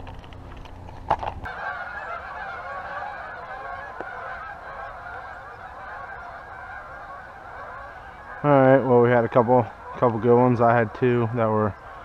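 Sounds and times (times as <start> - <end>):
geese honking: 1.4 - 12.0.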